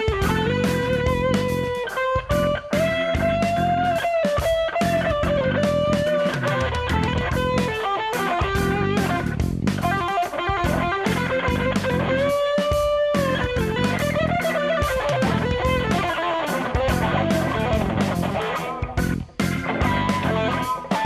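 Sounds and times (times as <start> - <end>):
bass guitar: 0.0 - 21.0
drums: 0.0 - 21.0
electric guitar lead: 0.0 - 21.0.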